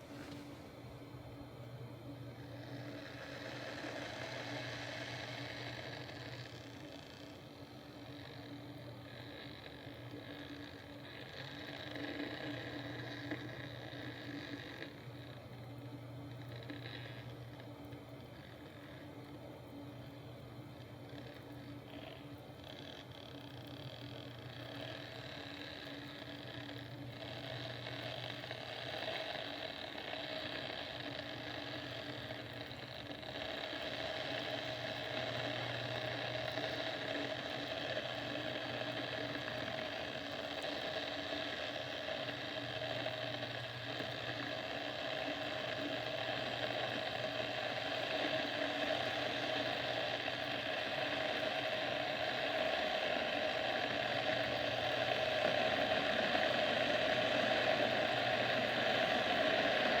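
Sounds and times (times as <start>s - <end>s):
electric kettle heating water: 0.0s - 60.0s.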